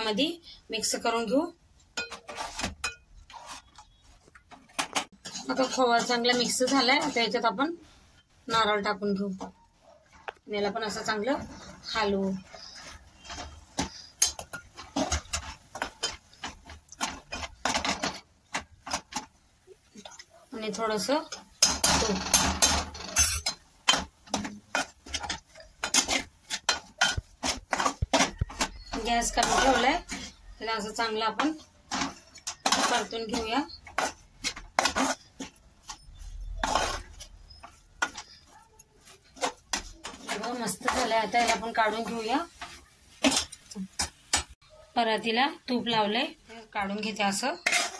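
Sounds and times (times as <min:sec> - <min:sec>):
spatula scraping metal pot: 0:01.9 - 0:09.6, 0:10.2 - 0:44.1, 0:46.9 - 0:47.9.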